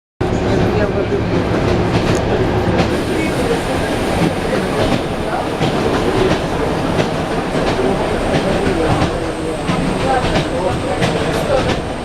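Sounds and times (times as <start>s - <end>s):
train rumble inside carriage: 0.2s - 12.0s.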